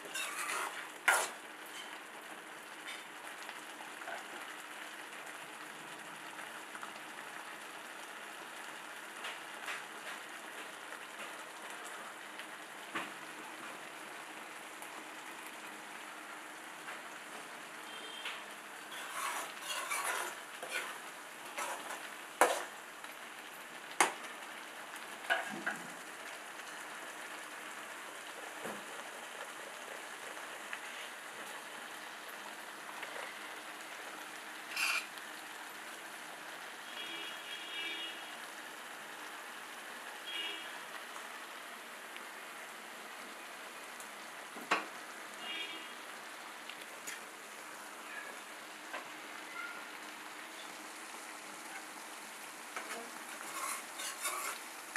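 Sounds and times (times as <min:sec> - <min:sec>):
gravy simmering and sizzling: 0:00.0 - 0:54.9.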